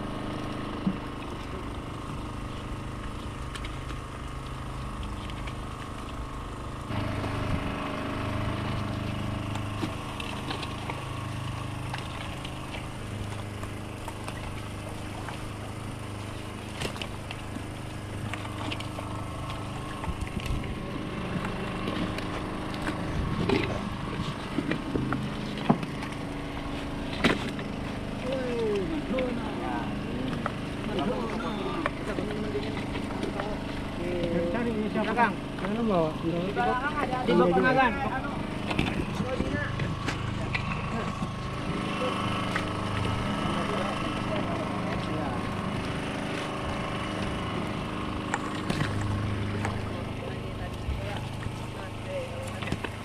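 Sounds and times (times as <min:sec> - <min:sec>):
boat engine running: 0:00.0 - 0:53.0
water splashing: 0:00.0 - 0:53.0.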